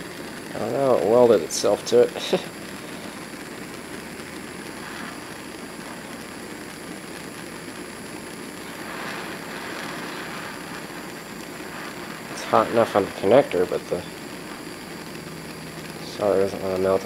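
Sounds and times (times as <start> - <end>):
propane torch burning: 0.0 - 17.0.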